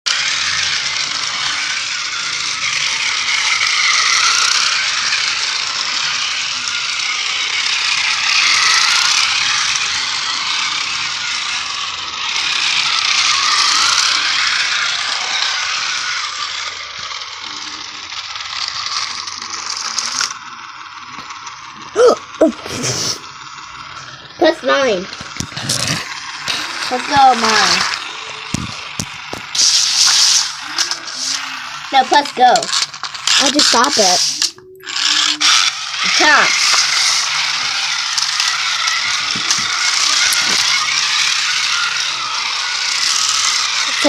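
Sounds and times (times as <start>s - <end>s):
loud rattling noise: 0.1s - 44.0s.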